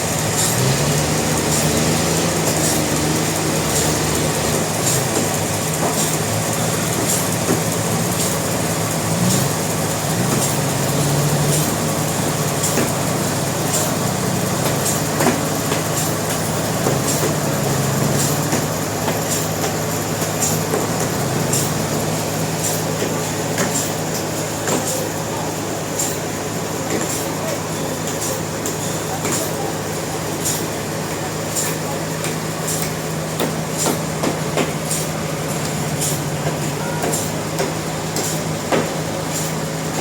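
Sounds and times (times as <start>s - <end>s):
sawmill engine drone: 0.0s - 40.0s
sharp machine clack: 0.0s - 40.0s.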